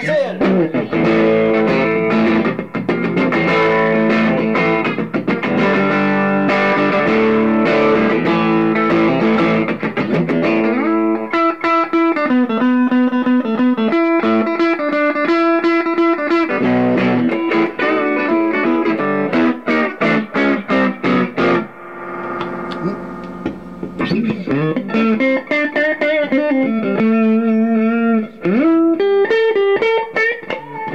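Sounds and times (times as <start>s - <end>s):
electric guitar playing: 0.4s - 30.9s.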